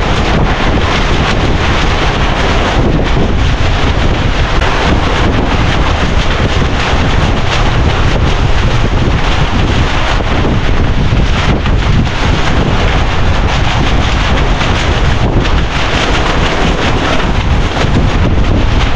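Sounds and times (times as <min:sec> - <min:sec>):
strong wind buffeting microphone: 0:00.0 - 0:18.9.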